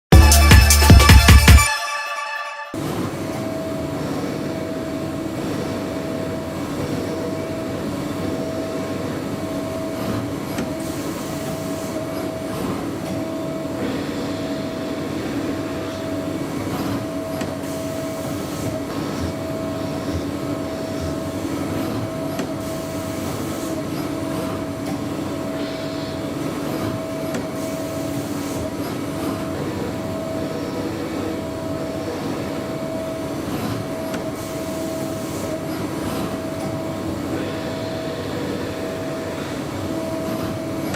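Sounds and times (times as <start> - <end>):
machine hum with high tone: 0.1 - 40.9.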